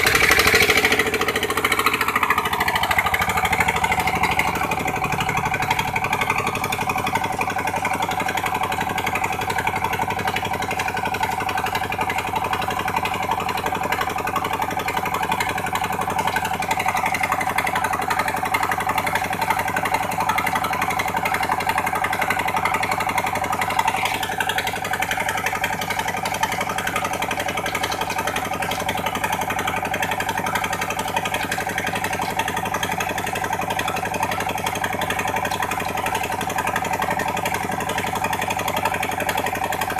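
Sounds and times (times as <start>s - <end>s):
pump engine running: 0.0s - 39.9s.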